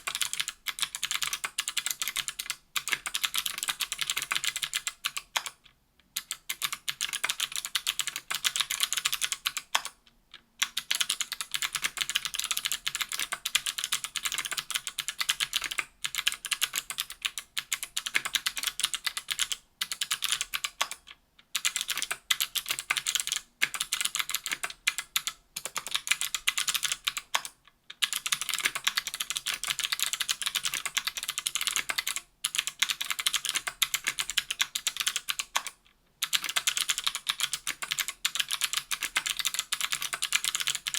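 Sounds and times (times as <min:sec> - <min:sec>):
fast clicky keyboard typing: 0:00.0 - 0:05.6, 0:06.2 - 0:10.0, 0:10.6 - 0:40.9.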